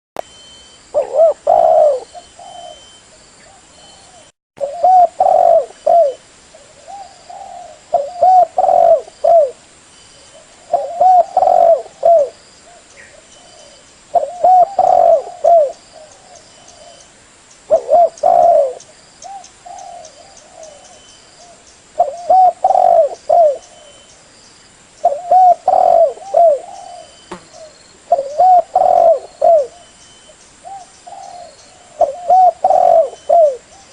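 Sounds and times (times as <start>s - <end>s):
dove cooing: 0.9s - 9.6s, 10.4s - 17.0s, 17.7s - 24.0s, 25.0s - 30.0s, 30.6s - 33.9s.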